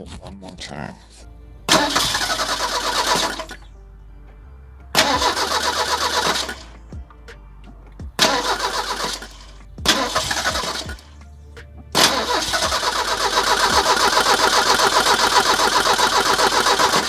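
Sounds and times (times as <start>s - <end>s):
car engine cranking on starter: 1.3s - 11.3s, 11.9s - 17.0s.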